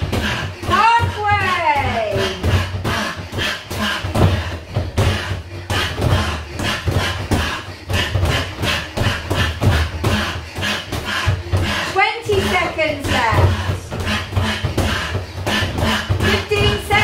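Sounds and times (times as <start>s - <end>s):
punches thudding on punch bag: 0.0s - 17.0s.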